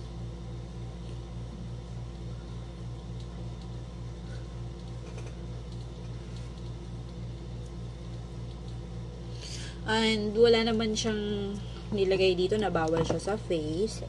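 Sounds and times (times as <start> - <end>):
pulsing low mechanical hum: 0.0 - 14.0.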